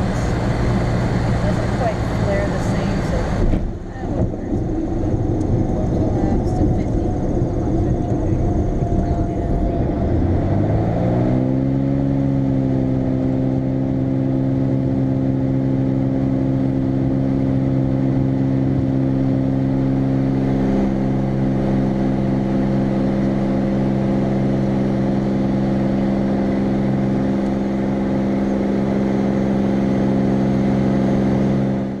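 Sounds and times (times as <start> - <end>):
light aircraft engine droning: 0.0 - 32.0.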